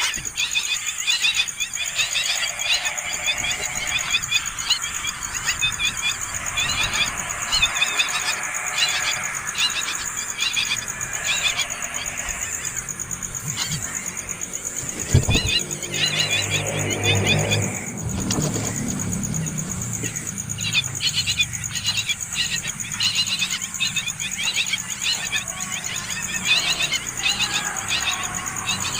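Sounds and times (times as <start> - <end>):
nestling birds chirping: 0.0 - 28.9.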